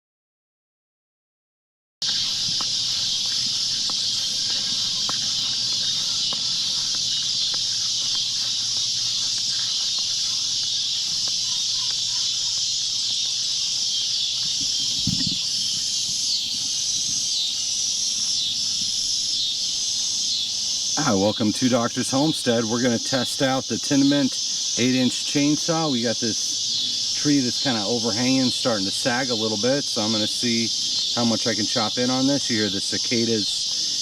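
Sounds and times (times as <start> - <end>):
cicada chorus buzzing: 2.0 - 34.0.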